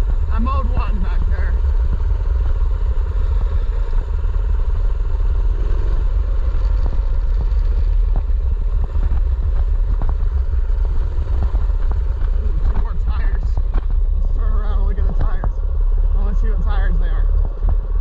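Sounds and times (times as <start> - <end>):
bike rattling over rough ground: 0.0 - 18.0
mini bike engine running: 0.0 - 18.0.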